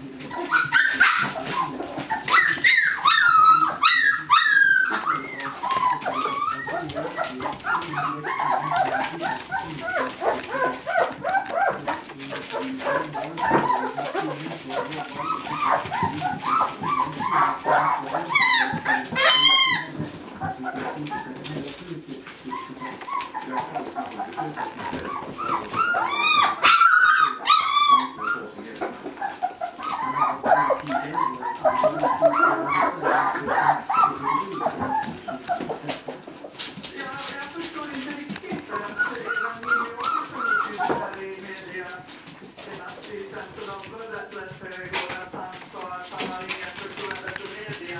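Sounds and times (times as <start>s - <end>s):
puppies whining and yipping: 0.0s - 36.6s, 38.5s - 41.3s.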